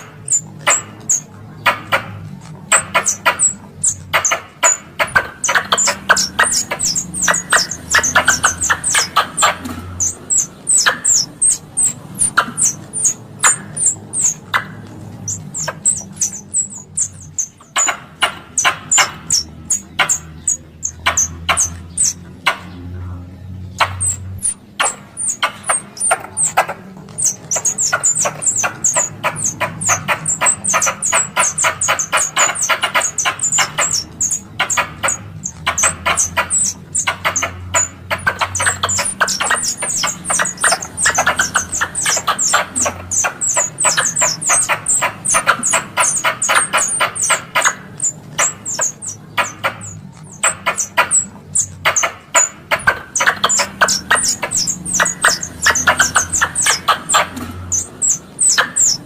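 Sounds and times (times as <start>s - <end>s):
squirrel chattering: 0.0s - 59.0s.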